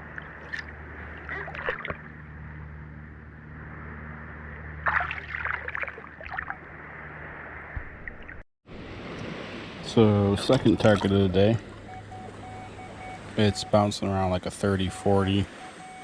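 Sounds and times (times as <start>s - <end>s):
water splashing and sloshing: 0.0s - 13.8s.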